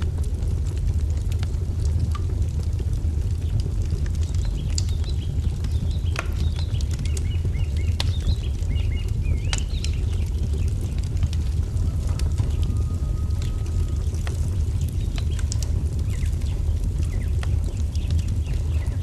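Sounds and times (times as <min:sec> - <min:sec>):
low rumble: 0:00.0 - 0:19.0
wood fire crackling: 0:00.0 - 0:19.0.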